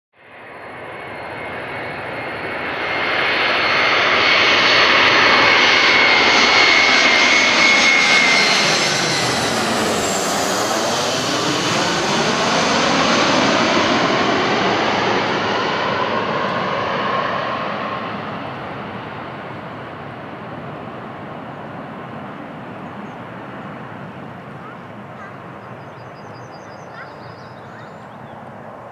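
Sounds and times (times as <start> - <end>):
high jet whine: 0.2 - 28.9
jet engines passing: 0.2 - 28.9.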